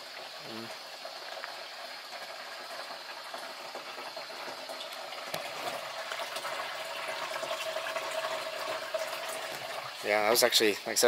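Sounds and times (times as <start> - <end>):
hose water running into tank: 0.0 - 11.0.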